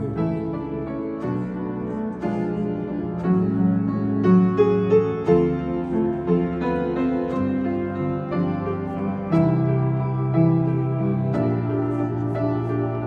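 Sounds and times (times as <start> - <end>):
keyboard playing: 0.0 - 13.0
upright piano: 0.0 - 13.0.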